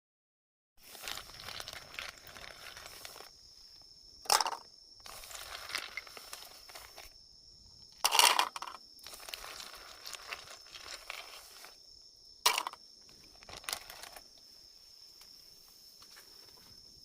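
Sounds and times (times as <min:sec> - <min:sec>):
rustling: 0:00.8 - 0:07.2, 0:08.0 - 0:11.8, 0:12.5 - 0:17.0
insects chirping: 0:00.8 - 0:17.0.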